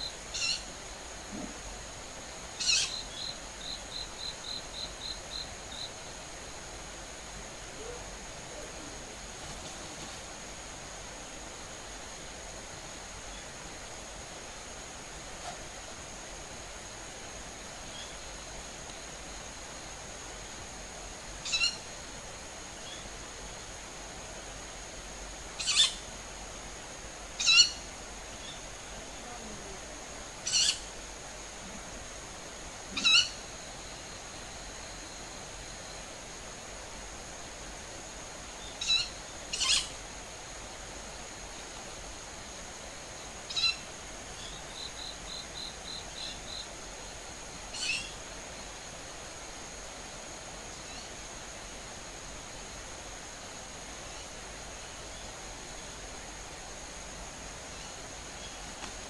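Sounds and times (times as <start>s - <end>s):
steady high-pitched whine: 0.0s - 59.0s.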